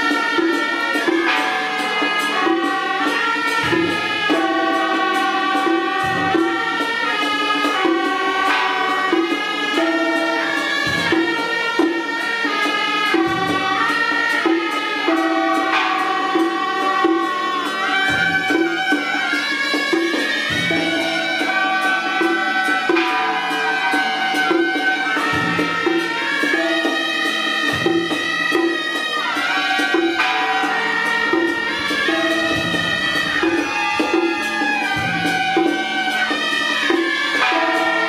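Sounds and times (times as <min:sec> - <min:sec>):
shawms playing reedy melody: 0:00.0 - 0:38.0.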